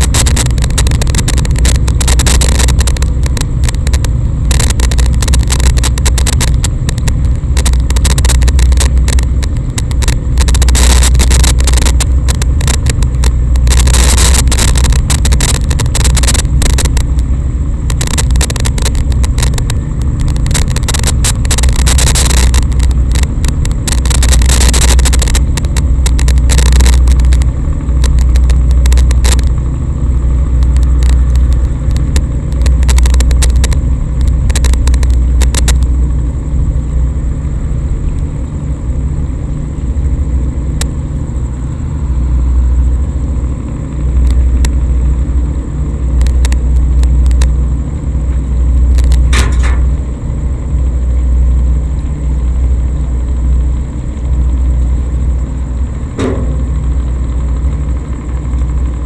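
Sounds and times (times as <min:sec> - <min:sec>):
crackles: 0:00.0 - 0:59.0
faint high whine: 0:00.0 - 0:59.0
loud low rumble: 0:00.0 - 0:59.0.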